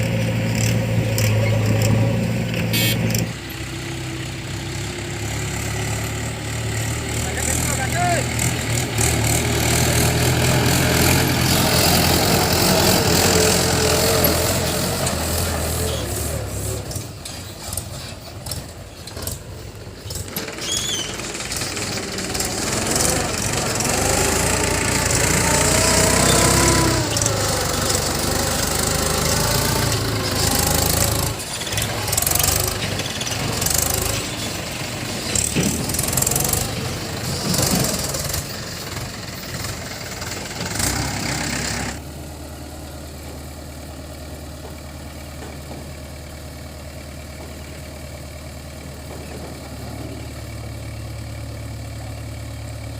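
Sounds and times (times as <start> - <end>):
diesel engines revving: 0.0 - 52.9.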